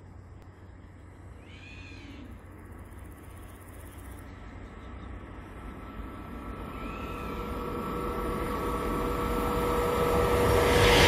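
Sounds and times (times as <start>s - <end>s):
high-speed train rumble in tunnel: 0.0s - 11.0s.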